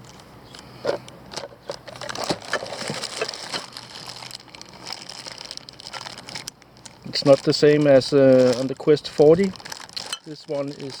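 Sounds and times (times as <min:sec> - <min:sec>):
plastic packaging crinkling: 0:01.4 - 0:11.0.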